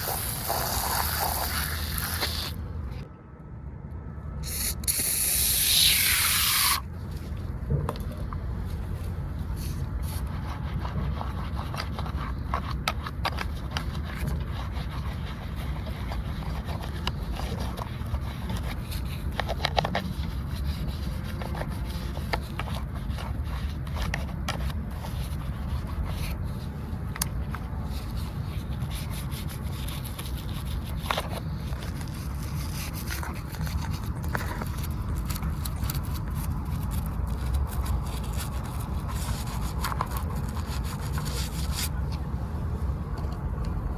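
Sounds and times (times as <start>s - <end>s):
scrubbing and scraping: 5.6s - 42.0s
steady low rumble: 6.8s - 43.9s.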